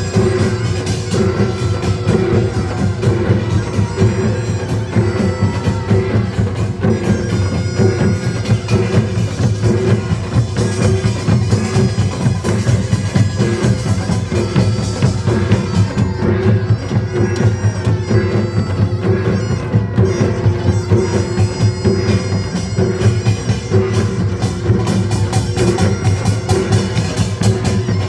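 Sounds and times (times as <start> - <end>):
nasal shawm melody: 0.0 - 28.0
pounding drums: 0.0 - 28.0.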